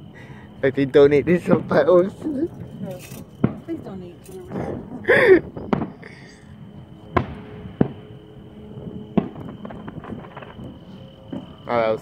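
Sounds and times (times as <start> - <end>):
distant fireworks bangs: 1.2 - 12.0.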